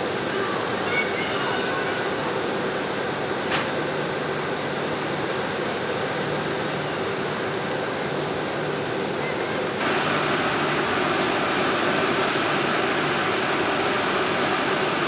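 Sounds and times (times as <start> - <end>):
ship machinery hum and hiss: 0.0 - 15.0.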